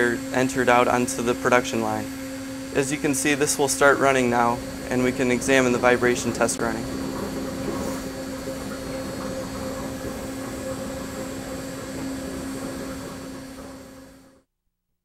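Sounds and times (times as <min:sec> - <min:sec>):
hydraulic test machine humming: 0:00.0 - 0:14.4.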